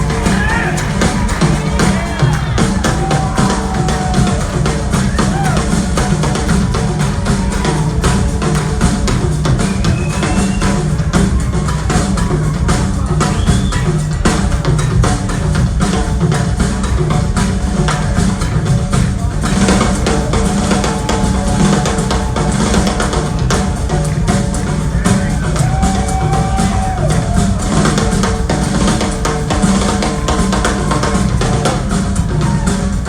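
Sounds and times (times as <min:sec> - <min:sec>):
bass drum and snare hits: 0:00.0 - 0:33.0
live rock band playing: 0:00.0 - 0:33.0.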